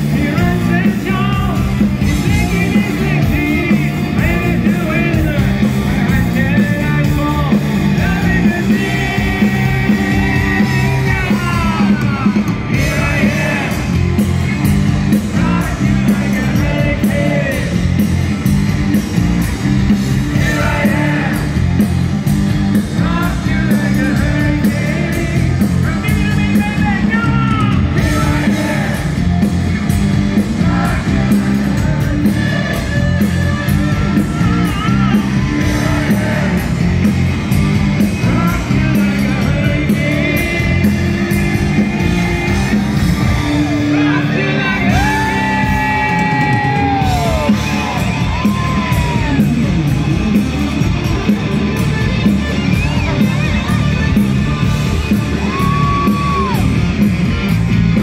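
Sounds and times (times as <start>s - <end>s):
bass guitar: 0.0s - 58.0s
distorted electric guitars: 0.0s - 58.0s
drums: 0.0s - 58.0s
voices singing and yelling: 0.0s - 58.0s.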